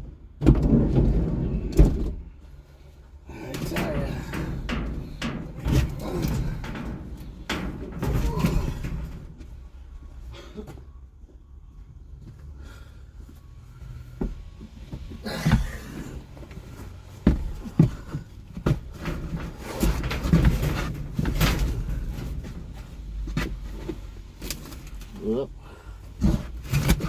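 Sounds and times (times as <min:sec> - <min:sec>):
objects knocking and clunking: 0:00.0 - 0:11.4, 0:13.4 - 0:27.0
scraping and rustling: 0:00.2 - 0:11.0, 0:13.4 - 0:27.0.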